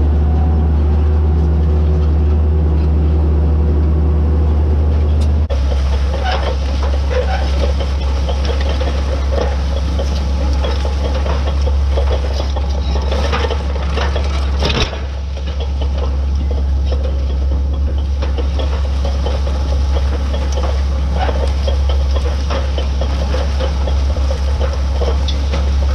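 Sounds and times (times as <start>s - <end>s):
tractor diesel engine droning: 0.0s - 25.9s
rattling and clanking: 0.8s - 25.9s.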